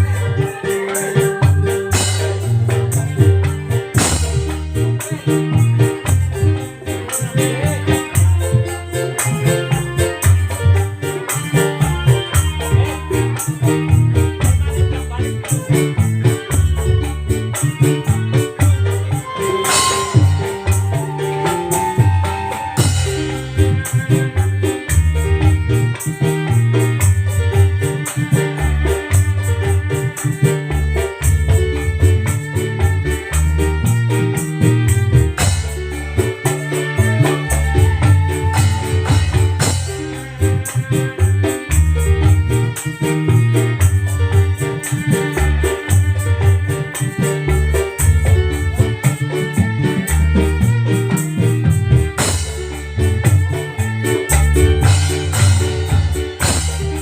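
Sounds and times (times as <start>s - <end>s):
instrumental music over sound system: 0.0s - 57.0s.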